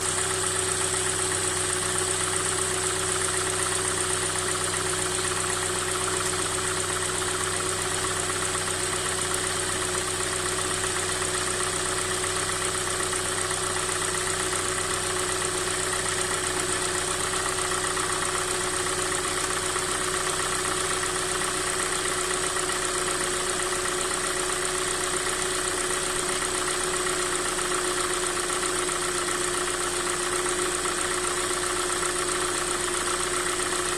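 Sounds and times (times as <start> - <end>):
car engine idling with knock: 0.0 - 33.9.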